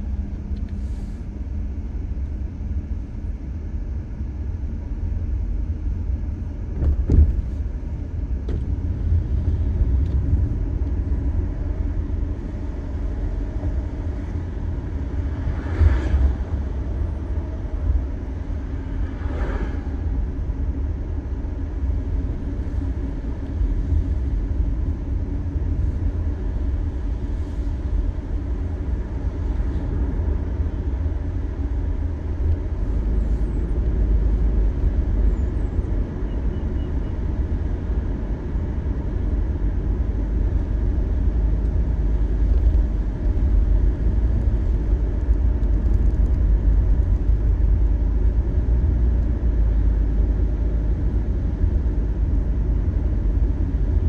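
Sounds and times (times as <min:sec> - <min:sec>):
car cabin rumble: 0:04.8 - 0:54.0.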